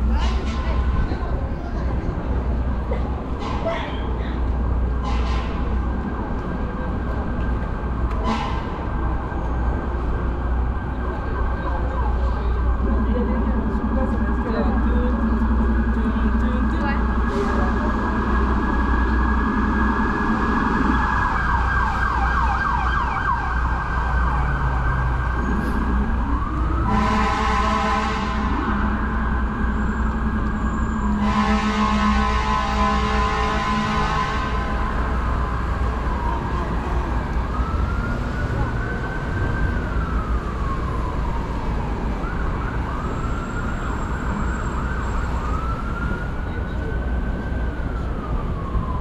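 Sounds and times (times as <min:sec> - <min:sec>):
emergency vehicle siren: 0:00.0 - 0:49.0
low rumble of traffic: 0:00.0 - 0:49.0.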